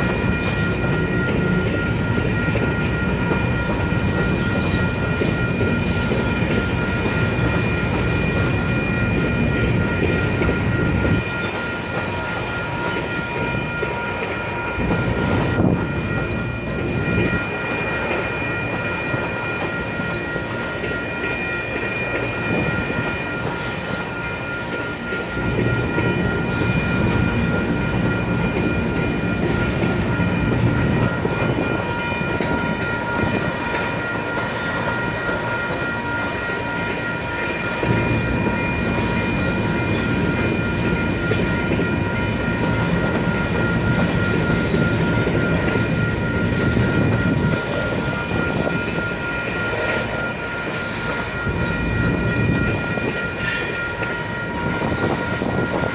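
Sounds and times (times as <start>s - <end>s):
freight train wheels clattering: 0.0s - 55.9s.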